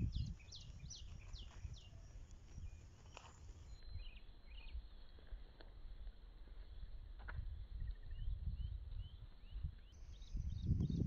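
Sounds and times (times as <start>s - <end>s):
small birds chirping: 0.0s - 5.4s, 7.4s - 11.0s
wind rumble on microphone: 0.0s - 11.0s.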